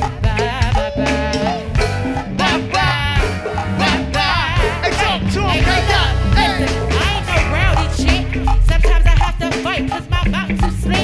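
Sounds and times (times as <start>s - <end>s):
sliding melodic lead line: 0.0s - 10.1s
live band bass and drums: 0.0s - 11.0s.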